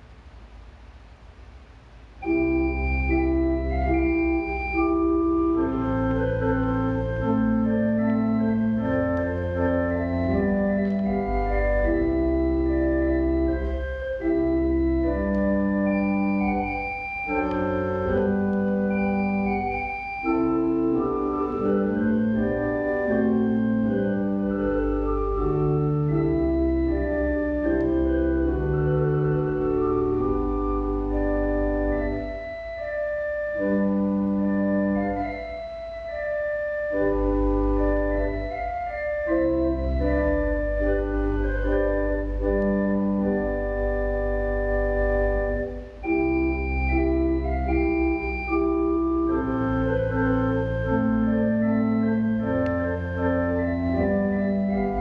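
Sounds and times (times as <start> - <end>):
organ chords over deep bass: 2.2 - 55.0.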